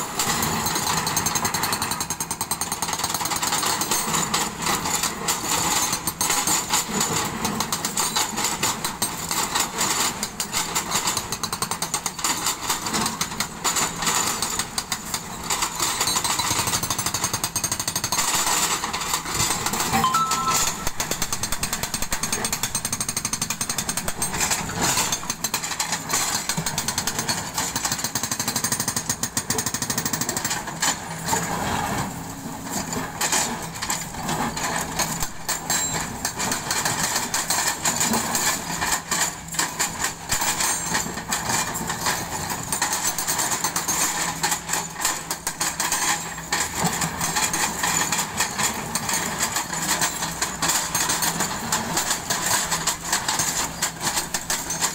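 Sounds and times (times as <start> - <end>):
hydraulic breaker hammering rock: 0.0 - 31.7, 32.7 - 54.9.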